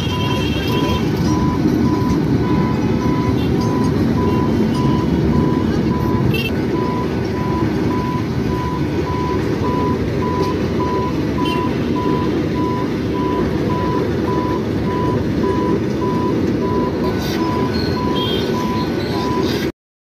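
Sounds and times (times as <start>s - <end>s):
freight train rumbling past: 0.0s - 19.6s
level crossing warning beeps: 0.0s - 19.7s.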